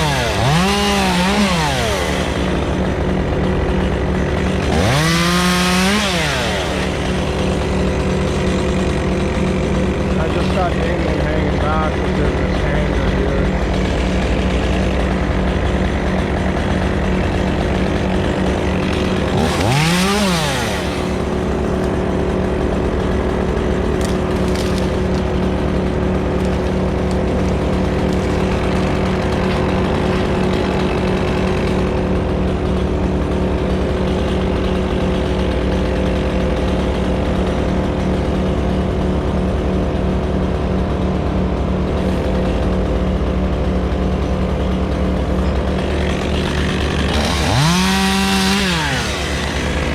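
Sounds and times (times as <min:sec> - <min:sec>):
chainsaw idling and revving: 0:00.0 - 0:49.9.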